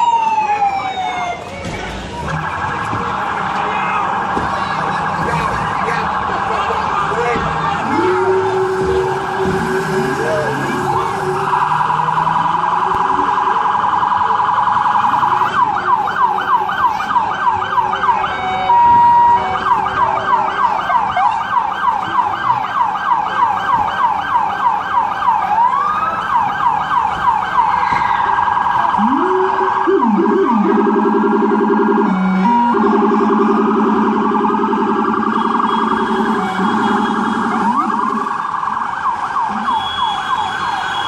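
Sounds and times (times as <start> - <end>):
emergency vehicle siren: 0.0 - 41.0.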